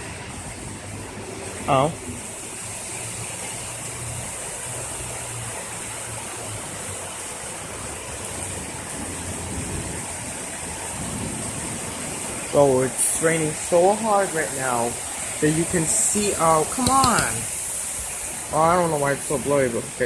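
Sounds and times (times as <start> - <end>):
heavy rain: 0.0 - 20.0
water pouring off a roof: 0.0 - 20.0.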